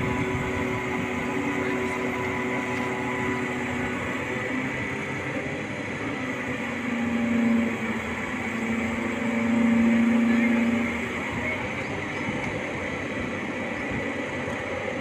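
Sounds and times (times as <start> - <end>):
crane engine humming: 0.0 - 15.0
faint steady whine: 0.0 - 15.0.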